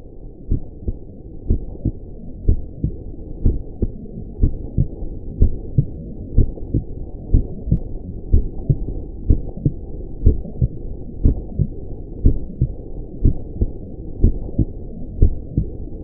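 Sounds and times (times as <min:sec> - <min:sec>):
low steady rumble: 0:00.0 - 0:16.0
heartbeat thumps: 0:00.5 - 0:15.8.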